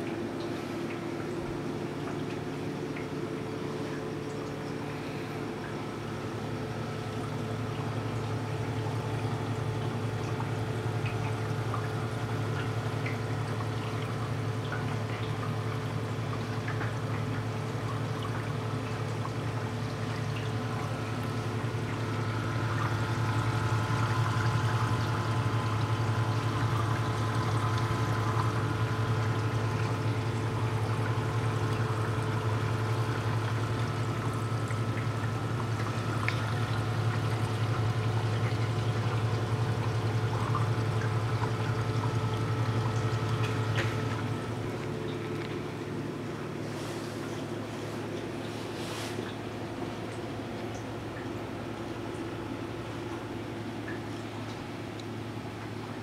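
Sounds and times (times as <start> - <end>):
low hum of equipment: 0.0 - 56.0
water pouring and trickling: 6.9 - 56.0.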